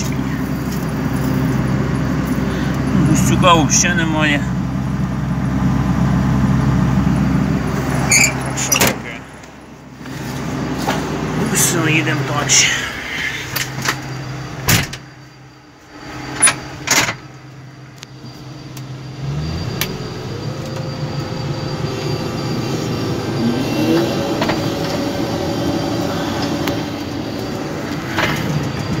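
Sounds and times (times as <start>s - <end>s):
combine harvester engine drone: 0.0s - 29.0s.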